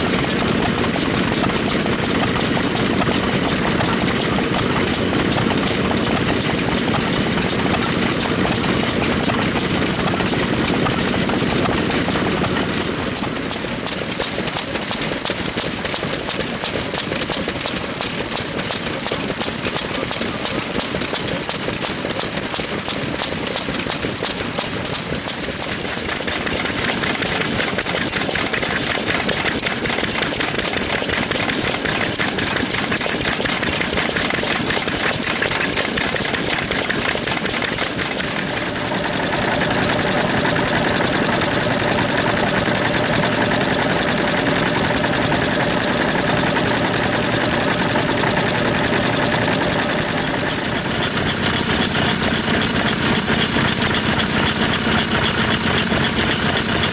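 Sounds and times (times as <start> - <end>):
old stationary engines running: 0.0 - 56.9.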